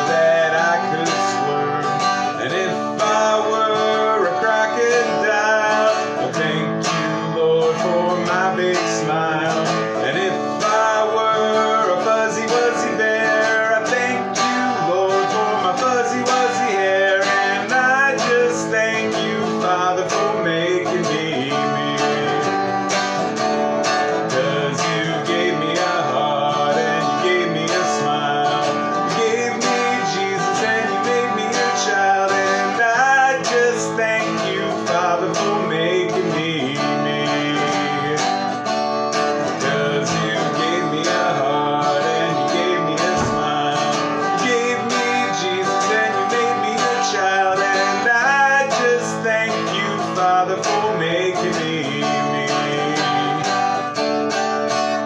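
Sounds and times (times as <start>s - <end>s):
guitar strumming chords: 0.0s - 55.0s
man singing: 0.0s - 55.0s.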